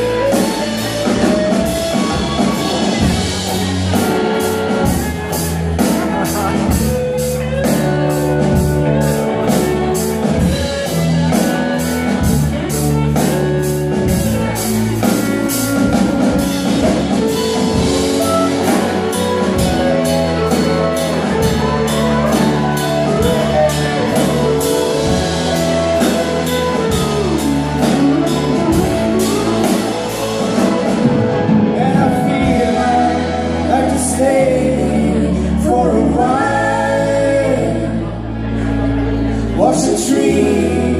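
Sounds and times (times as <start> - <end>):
live rock band: 0.0 - 40.9
voices singing: 0.0 - 40.9.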